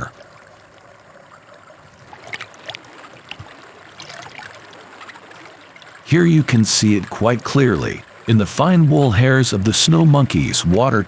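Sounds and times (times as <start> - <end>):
short drips or splashes: 0.0 - 11.0
water trickling and dripping: 0.0 - 11.0.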